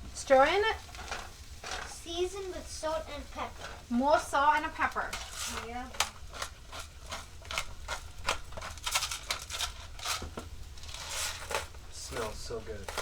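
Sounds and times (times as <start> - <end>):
utensil stirring in frying pan: 0.0 - 13.0.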